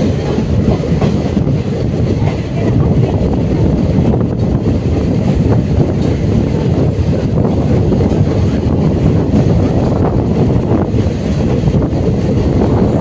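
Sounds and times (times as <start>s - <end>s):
train rumbling at speed: 0.0s - 13.0s
wind buffeting microphone: 0.0s - 13.0s.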